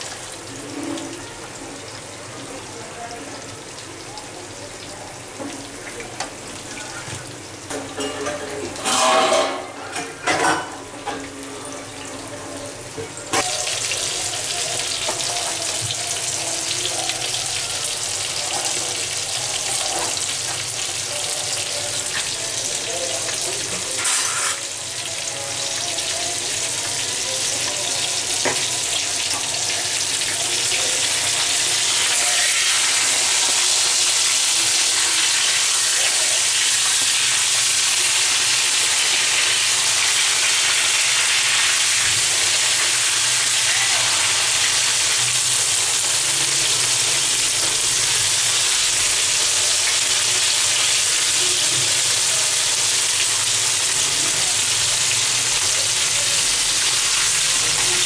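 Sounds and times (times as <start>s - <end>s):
fish frying in hot oil: 0.0s - 58.0s.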